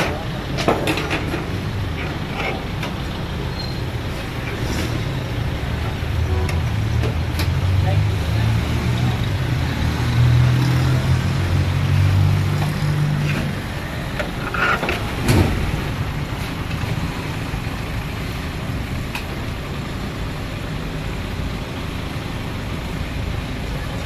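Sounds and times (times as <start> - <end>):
street background noise: 0.0 - 24.0.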